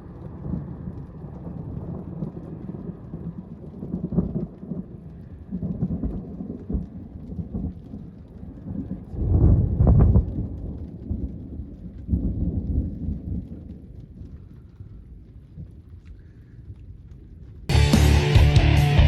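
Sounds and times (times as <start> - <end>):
thunder rumbling: 0.0 - 16.4
rain falling: 0.0 - 19.0.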